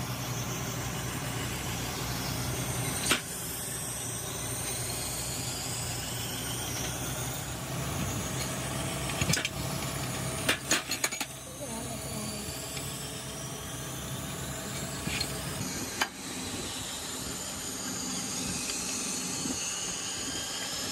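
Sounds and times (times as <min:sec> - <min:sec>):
workshop machine humming: 0:00.0 - 0:20.9.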